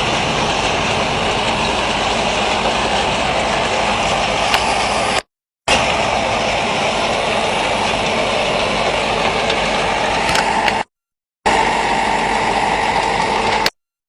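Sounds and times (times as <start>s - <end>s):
industrial machinery running: 0.0s - 10.9s, 11.5s - 13.8s.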